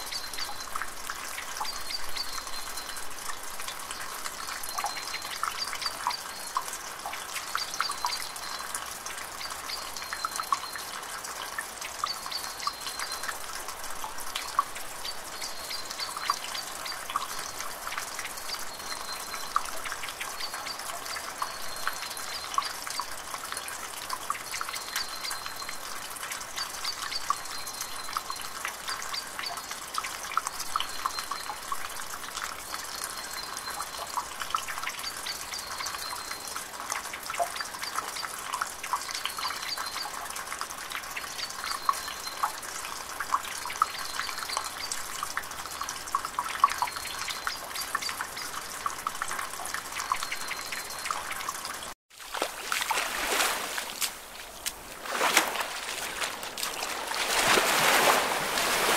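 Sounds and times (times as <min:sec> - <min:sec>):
water trickling and dripping: 0:00.0 - 0:58.9.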